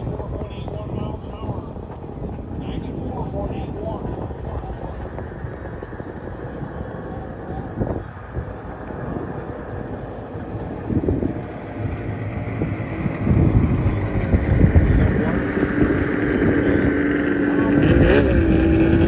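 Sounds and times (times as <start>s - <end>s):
snowmobile engine running: 0.0s - 19.0s
wind noise on microphone: 0.0s - 19.0s.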